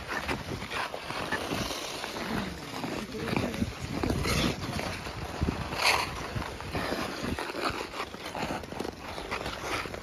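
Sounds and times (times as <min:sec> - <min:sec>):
skate blades scraping on ice: 0:00.0 - 0:10.0.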